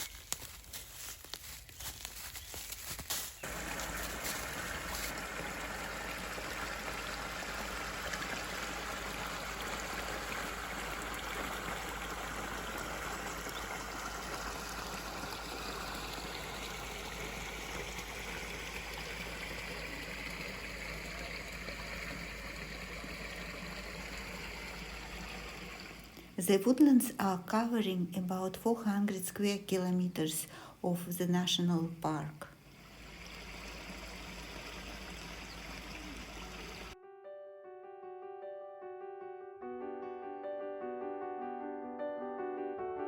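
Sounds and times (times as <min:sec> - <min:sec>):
small stream running: 0:00.0 - 0:37.0.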